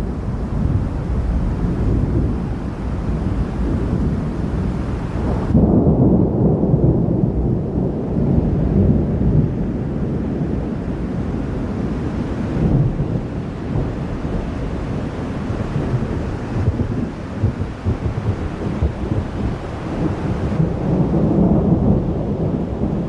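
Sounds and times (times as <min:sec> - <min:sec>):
low rumble of thunder: 0:00.0 - 0:23.0
wind: 0:00.0 - 0:23.0.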